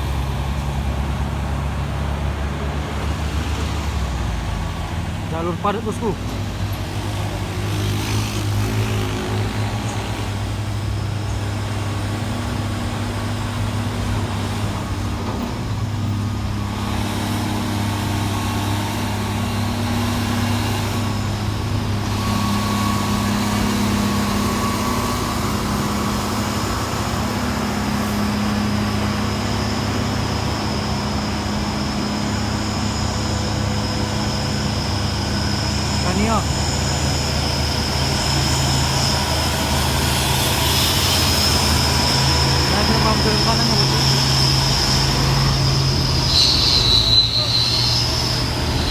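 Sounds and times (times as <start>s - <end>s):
diesel truck engines labouring: 0.0s - 48.9s.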